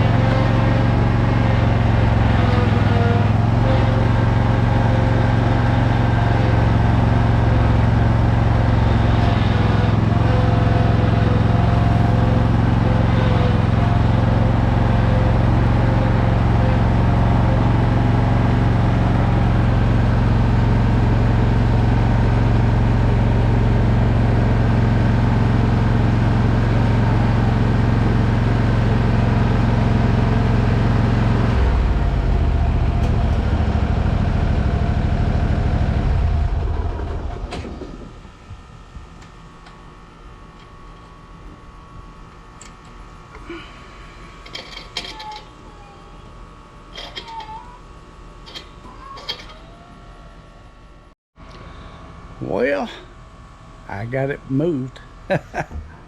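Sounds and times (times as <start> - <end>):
mower engine running steadily: 0.0 - 45.5.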